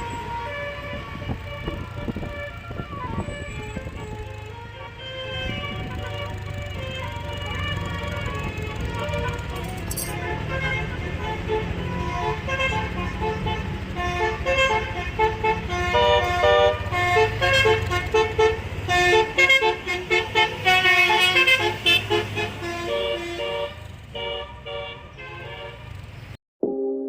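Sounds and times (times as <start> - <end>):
bus horn playing a tune: 0.0 - 26.1
bus engine rumble: 0.0 - 26.4.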